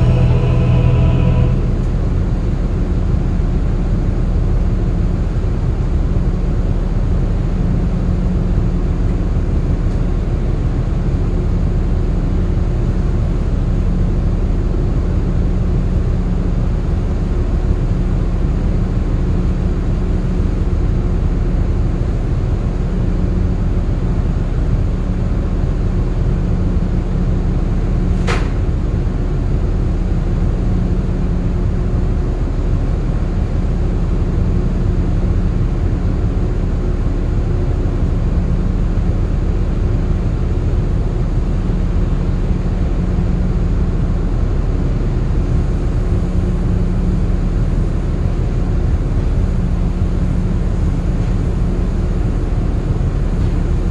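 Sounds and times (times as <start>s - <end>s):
ship machinery drone: 0.0s - 53.9s.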